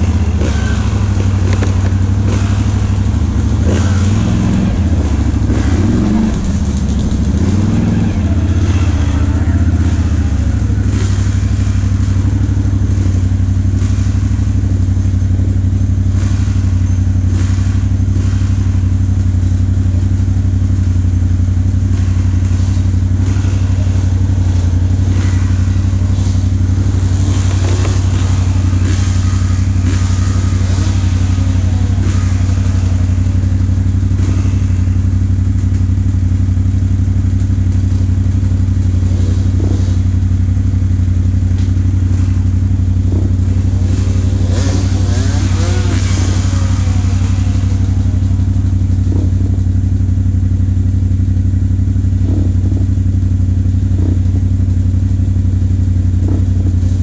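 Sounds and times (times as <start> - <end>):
atv engine idling: 0.0 - 57.0.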